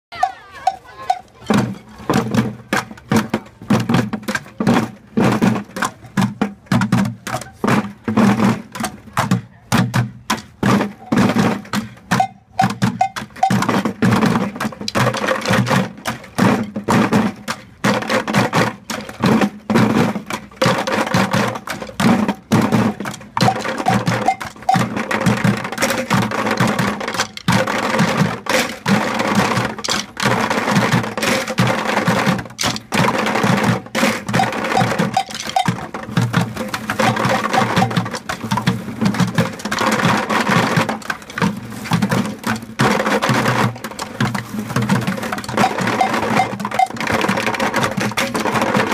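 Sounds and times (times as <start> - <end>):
children drumming on plastic buckets: 0.1 - 48.9.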